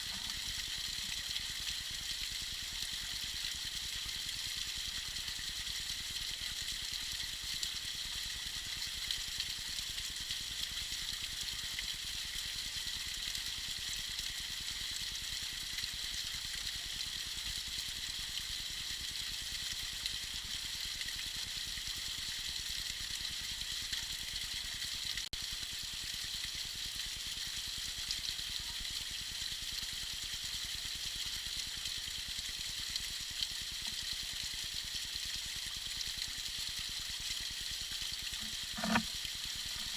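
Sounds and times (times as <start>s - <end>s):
small waterfall trickling and splashing: 0.0s - 39.9s.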